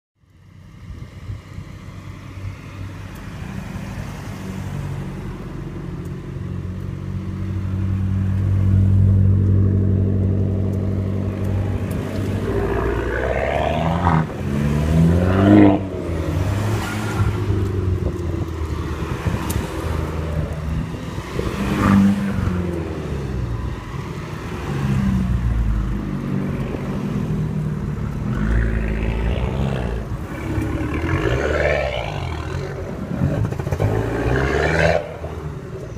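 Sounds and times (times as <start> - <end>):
engine hum: 0.2 - 35.9
cars driving past: 0.4 - 35.9.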